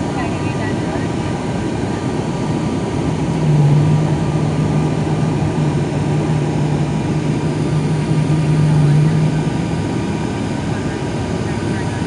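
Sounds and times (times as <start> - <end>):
loud low hum: 0.0 - 12.0
turboprop engines droning: 0.0 - 12.0.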